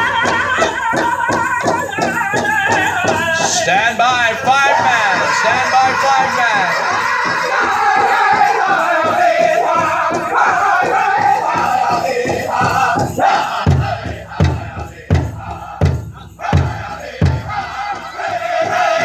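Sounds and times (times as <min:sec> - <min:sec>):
big drum beats: 0:00.0 - 0:19.0
group singing in high voices: 0:00.0 - 0:19.0.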